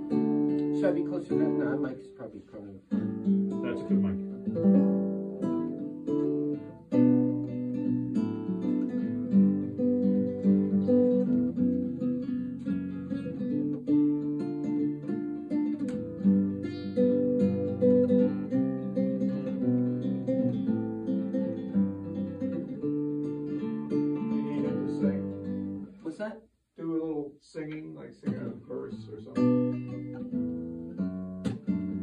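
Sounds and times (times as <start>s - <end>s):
acoustic guitar chords: 0.0s - 32.0s.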